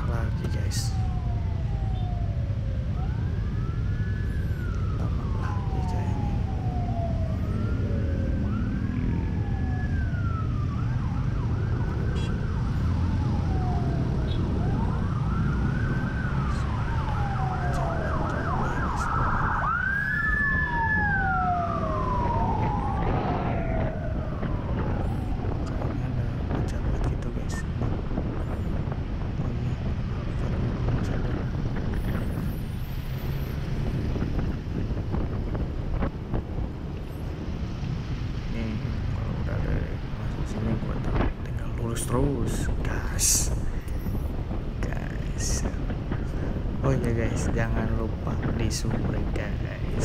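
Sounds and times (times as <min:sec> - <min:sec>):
emergency siren wailing: 0:00.0 - 0:50.0
wind and road noise: 0:00.0 - 0:50.0.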